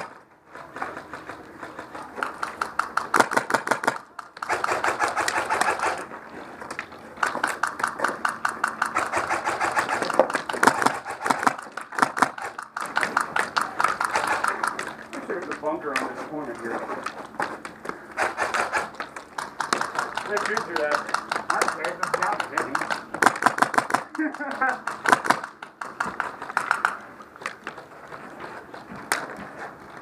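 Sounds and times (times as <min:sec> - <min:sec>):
airsoft rifles firing bursts: 0:00.8 - 0:06.1, 0:07.2 - 0:17.2, 0:18.1 - 0:27.0.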